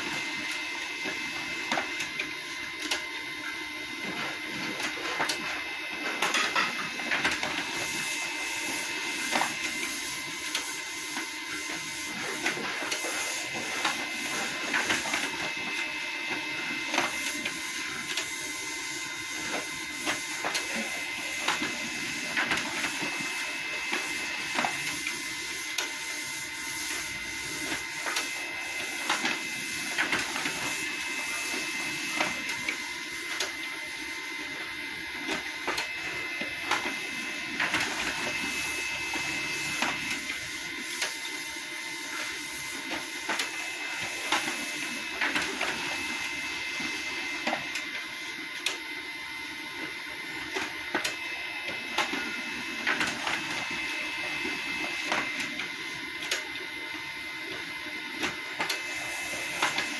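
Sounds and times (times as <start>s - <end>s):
printer mechanical whir: 0.0s - 59.9s
paper feed clicks: 0.4s - 3.2s, 6.1s - 33.7s, 35.2s - 48.9s, 50.4s - 56.6s, 57.5s - 59.9s.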